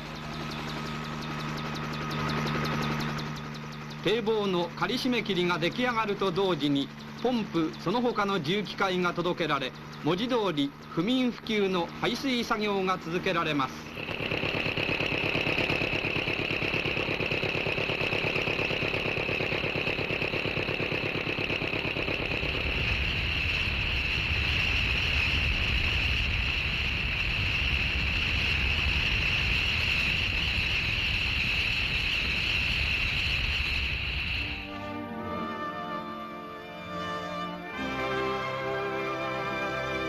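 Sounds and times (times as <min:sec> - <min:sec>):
constant high whine: 0:00.0 - 0:40.0
pump engines running: 0:00.0 - 0:40.0.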